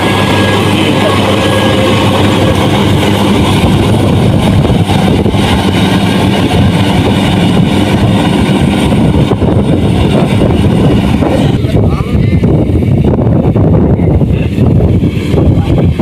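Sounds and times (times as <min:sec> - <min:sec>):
combine harvester engine running: 0:00.0 - 0:16.0.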